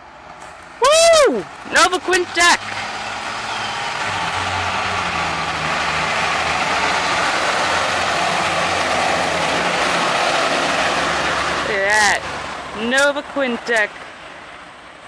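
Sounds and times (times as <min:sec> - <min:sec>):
fire truck engine: 0:00.0 - 0:15.0
rushing road noise: 0:00.0 - 0:15.0.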